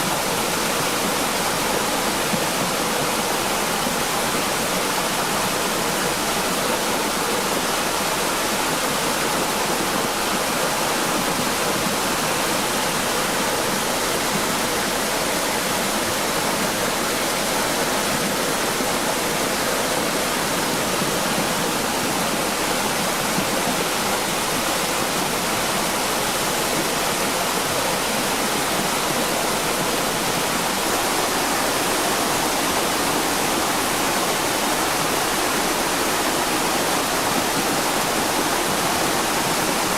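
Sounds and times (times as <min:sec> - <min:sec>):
rushing flood water: 0:00.0 - 0:39.9.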